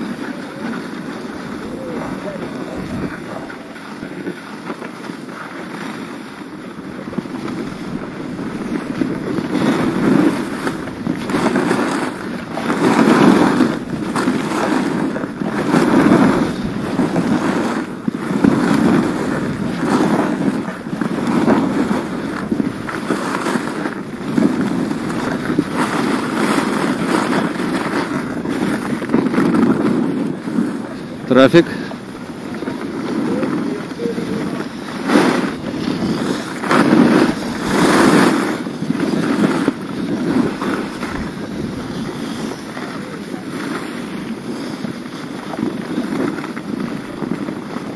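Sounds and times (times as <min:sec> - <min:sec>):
wind buffeting microphone: 0:00.0 - 0:04.4, 0:06.4 - 0:47.9
skis carving over snow: 0:00.0 - 0:47.9.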